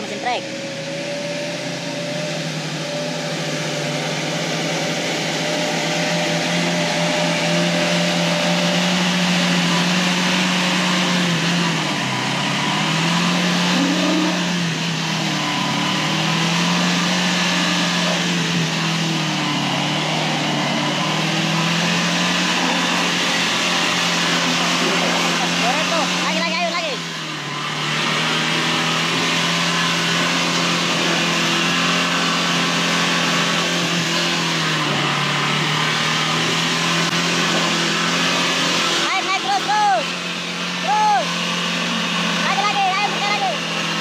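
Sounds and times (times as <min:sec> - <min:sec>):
pickup engine revving hard: 0:00.0 - 0:44.0.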